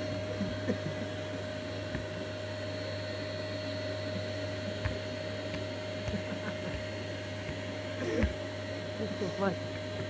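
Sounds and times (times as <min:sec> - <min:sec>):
vacuum cleaner whining: 0:00.0 - 0:10.0.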